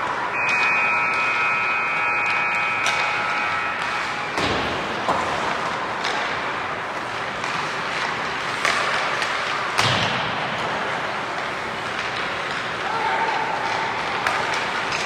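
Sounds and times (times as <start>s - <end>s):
hockey pucks and sticks striking: 0.0s - 15.0s
ice arena ambience: 0.0s - 15.0s.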